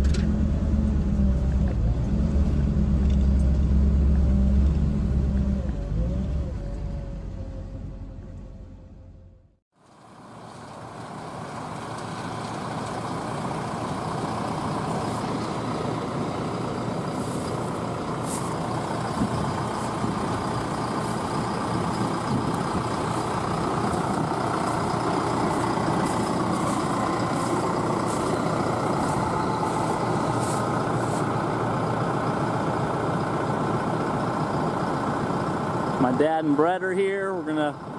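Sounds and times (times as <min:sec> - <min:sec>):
heavy machinery engine running: 0:00.0 - 0:09.5, 0:10.2 - 0:37.9.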